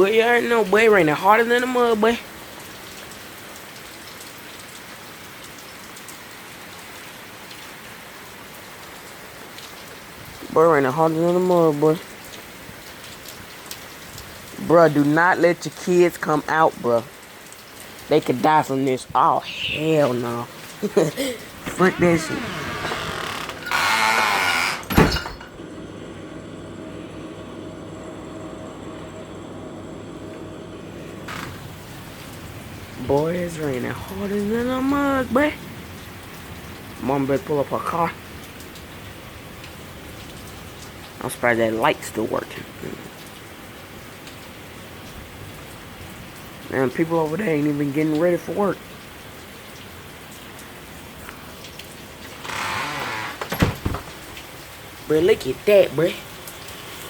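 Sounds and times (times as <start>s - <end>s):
heavy rain: 0.0s - 25.4s, 30.9s - 57.0s
faint steady hum: 8.1s - 57.0s.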